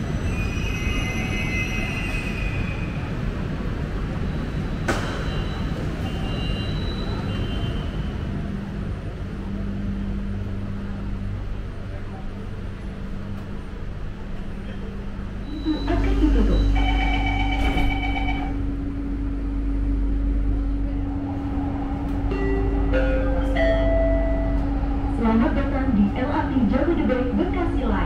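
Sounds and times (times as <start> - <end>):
train low hum and rumble: 0.0 - 28.0.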